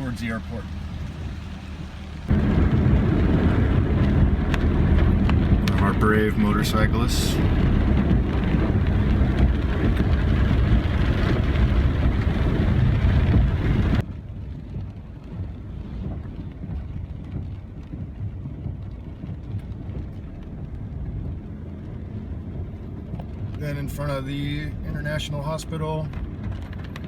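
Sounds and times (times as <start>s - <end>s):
low rumble of moving vehicle: 0.0s - 27.0s
wind and road noise: 0.0s - 27.0s.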